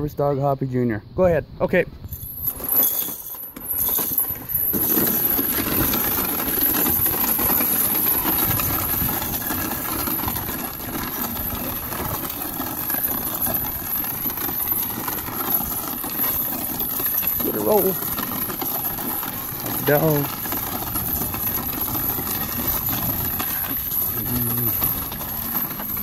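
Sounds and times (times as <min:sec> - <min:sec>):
plastic basket scraping on concrete: 0:02.4 - 0:23.8.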